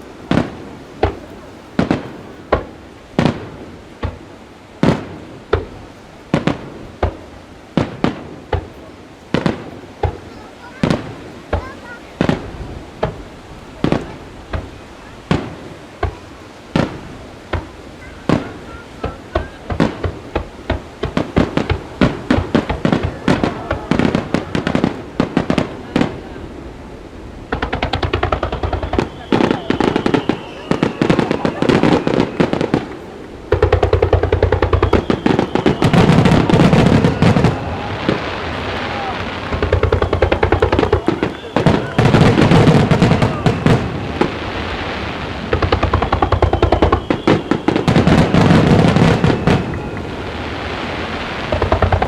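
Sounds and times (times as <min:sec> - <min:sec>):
fireworks booming: 0:00.0 - 0:52.0.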